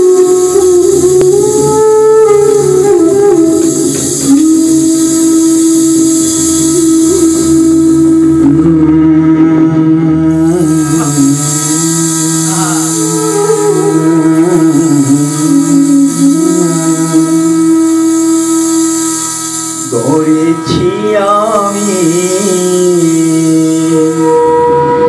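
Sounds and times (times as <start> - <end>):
bamboo flute melody: 0.0 - 25.0
tabla drums: 0.0 - 25.0.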